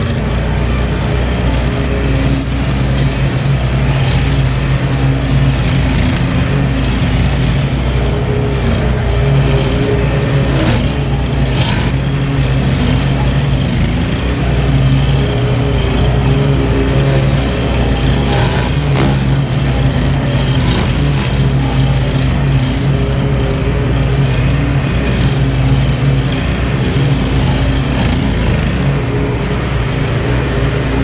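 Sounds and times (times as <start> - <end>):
small gasoline engine running: 0.0 - 31.0.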